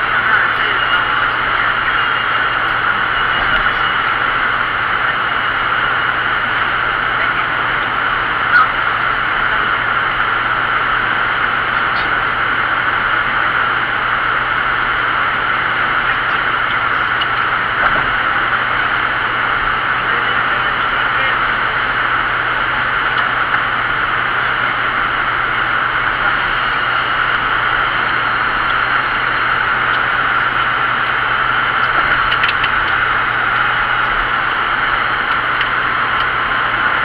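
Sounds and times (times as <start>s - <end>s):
road and wind noise: 0.0s - 37.0s.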